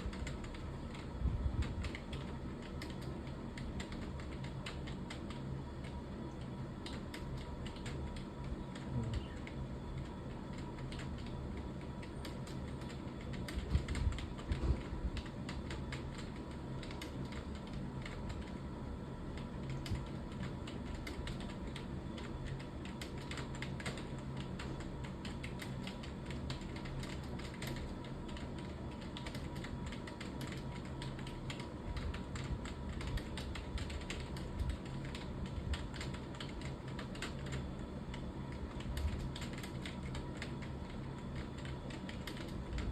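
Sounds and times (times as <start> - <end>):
keyboard typing: 0.0 - 18.6, 19.3 - 42.9.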